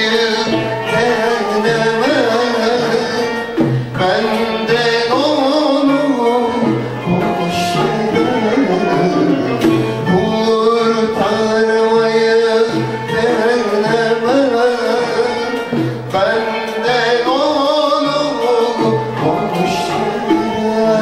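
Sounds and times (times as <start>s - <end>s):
instrumental accompaniment: 0.0s - 21.0s
man singing: 0.0s - 21.0s.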